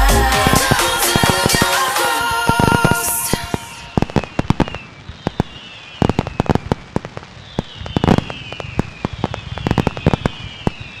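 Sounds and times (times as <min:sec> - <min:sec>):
fireworks bangs and crackles: 0:00.3 - 0:11.0
fireworks falling whistles: 0:00.4 - 0:11.0.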